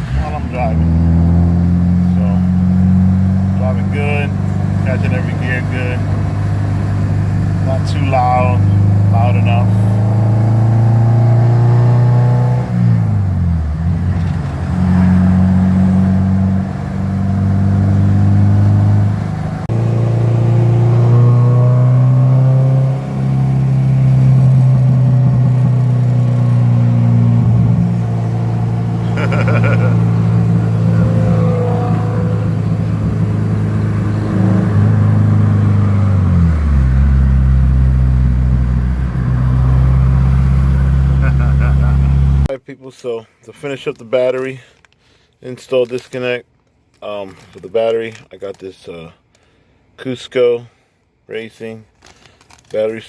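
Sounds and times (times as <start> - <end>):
car engine revving through gears: 0.0 - 42.5.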